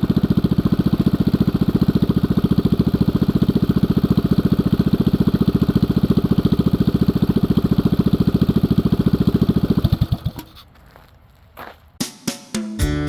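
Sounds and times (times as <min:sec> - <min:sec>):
minibike engine idling: 0:00.0 - 0:10.6.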